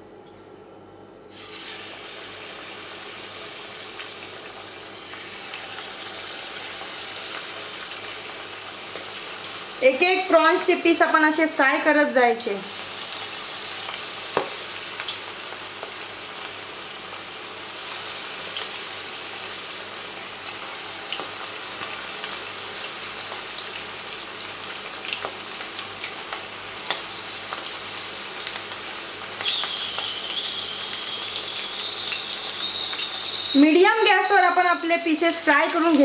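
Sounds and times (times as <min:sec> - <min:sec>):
prawns deep-frying in oil: 0:01.3 - 0:36.0.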